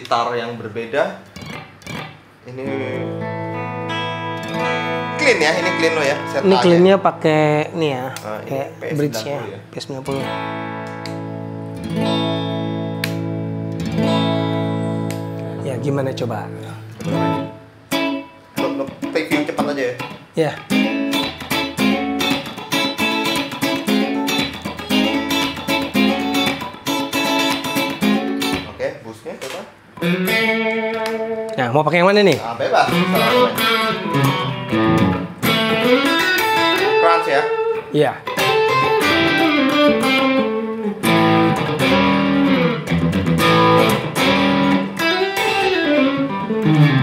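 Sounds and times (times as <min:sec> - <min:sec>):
clean electric guitar chord riff: 0:01.4 - 0:28.8, 0:30.0 - 0:31.6, 0:32.9 - 0:47.0.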